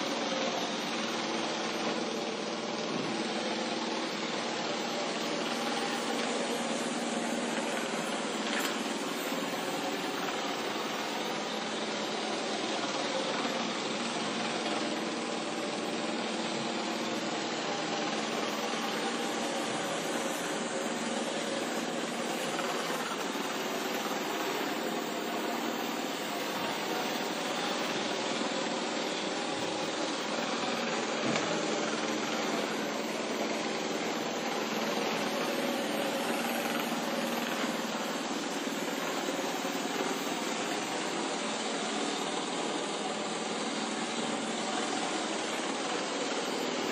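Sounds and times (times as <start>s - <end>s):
robot vacuum motor whirring: 0.0s - 46.9s.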